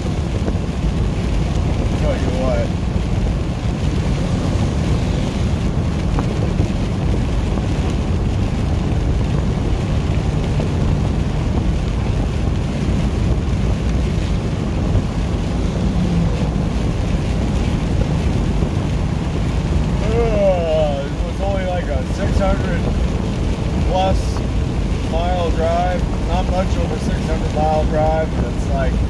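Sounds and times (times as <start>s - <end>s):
truck cab drone: 0.0s - 24.9s
heavy rain: 0.0s - 29.0s
tyres hissing on wet road: 0.0s - 29.0s.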